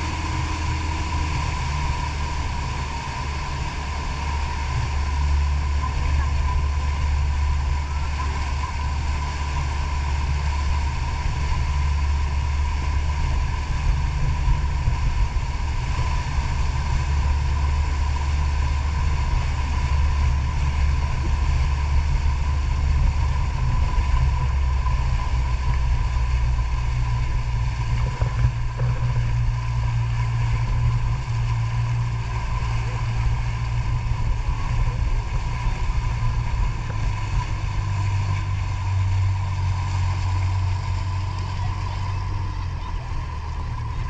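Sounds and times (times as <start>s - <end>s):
outboard motor running: 0.0s - 44.0s
rush of churning wake: 0.0s - 44.0s.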